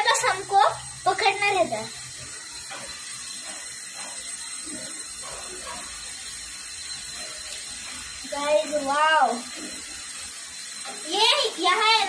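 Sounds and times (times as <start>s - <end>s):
water hissing through a hose: 0.0s - 12.0s.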